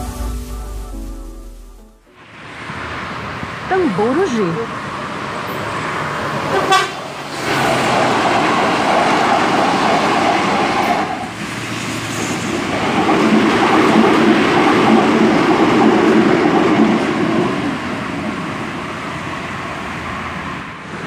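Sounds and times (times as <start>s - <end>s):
electric train rolling past: 0.0s - 21.0s.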